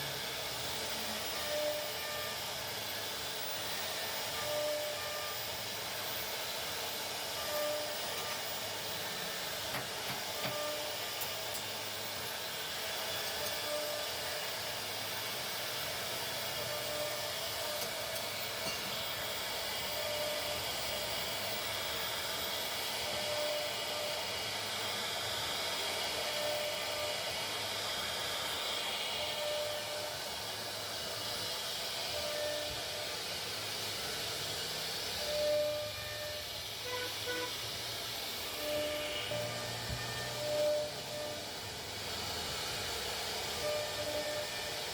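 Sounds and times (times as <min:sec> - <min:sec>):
cnc router cutting plastic: 0:00.0 - 0:44.9
high spindle whine: 0:00.0 - 0:44.9.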